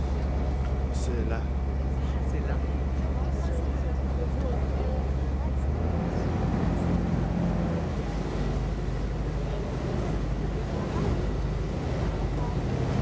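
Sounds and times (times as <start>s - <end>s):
boat engine humming: 0.0s - 13.0s
water rushing: 0.0s - 13.0s.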